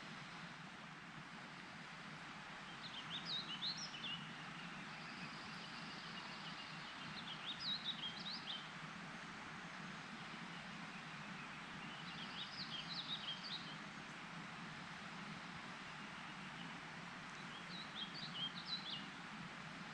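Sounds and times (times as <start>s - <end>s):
steady outdoor hiss: 0.0s - 19.9s.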